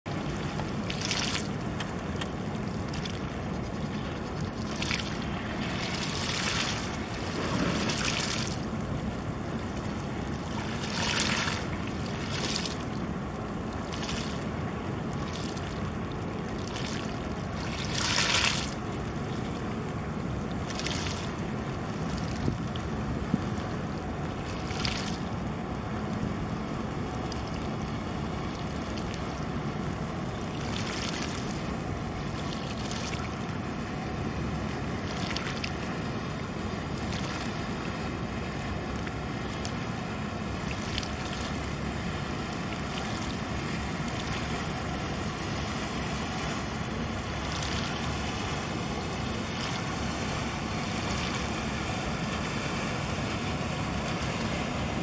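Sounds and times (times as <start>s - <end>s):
wind: 0.0s - 55.0s
small waves splashing: 0.1s - 55.0s.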